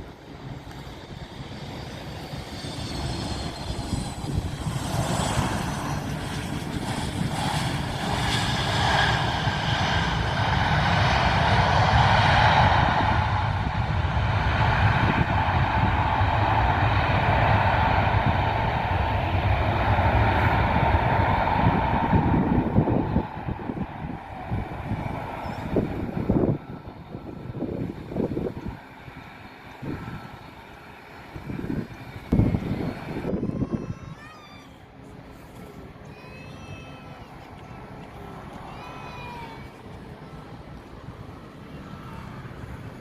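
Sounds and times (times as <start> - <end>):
passing plane engines: 0.0 - 43.0.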